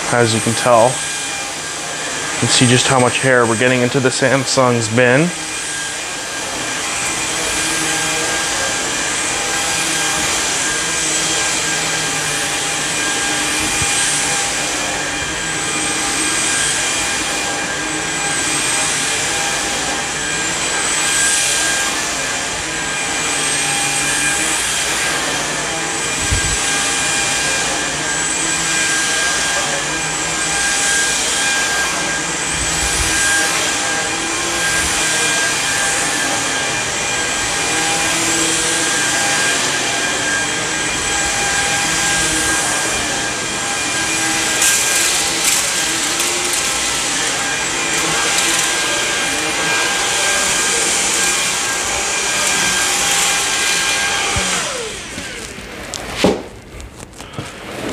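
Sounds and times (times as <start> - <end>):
cordless vacuum running on carpet: 0.0 - 57.9.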